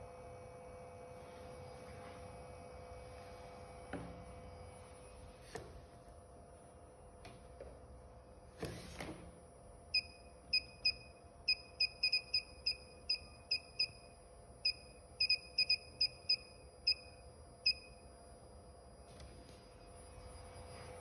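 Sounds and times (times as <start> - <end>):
faint electronic hum: 0.0 - 21.0.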